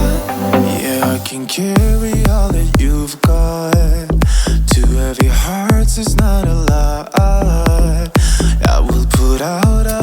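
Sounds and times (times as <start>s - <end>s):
pop music with kick drum: 0.0s - 10.0s.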